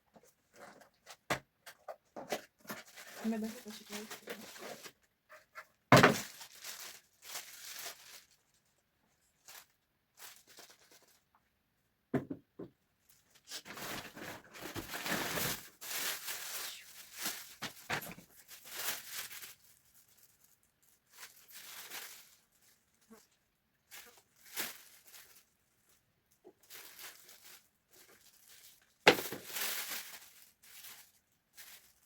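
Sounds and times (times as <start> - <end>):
packaging rustling and tearing: 0.2 - 8.6, 9.3 - 11.2, 13.1 - 25.6, 26.4 - 32.0.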